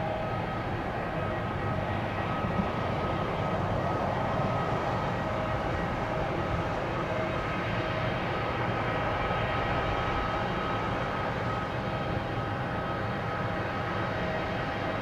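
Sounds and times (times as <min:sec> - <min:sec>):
jet airliner idling: 0:00.0 - 0:15.0
steady high whine: 0:00.0 - 0:15.0.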